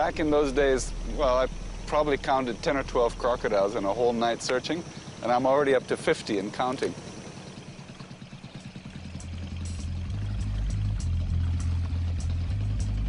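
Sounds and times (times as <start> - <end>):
boat motor throbbing: 0.0 - 13.0
loud low drone: 0.0 - 13.0.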